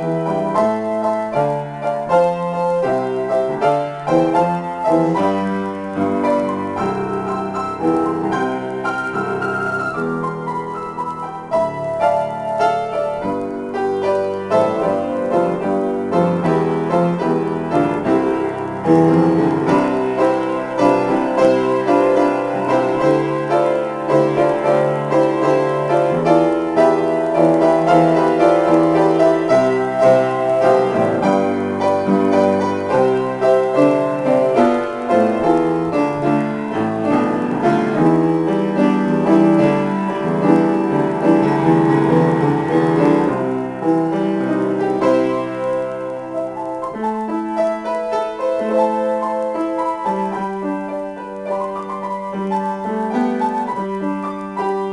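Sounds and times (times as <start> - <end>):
solo piano playing: 0.0 - 54.9.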